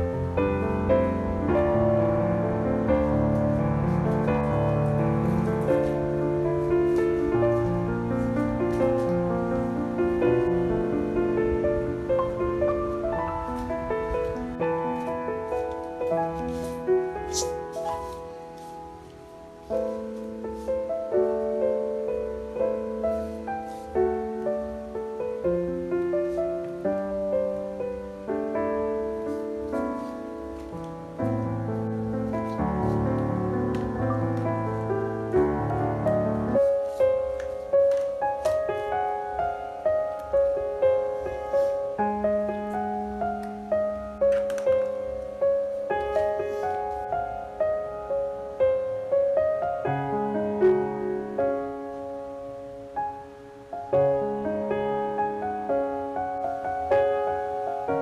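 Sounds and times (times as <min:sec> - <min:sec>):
soft piano music: 0:00.0 - 0:58.0.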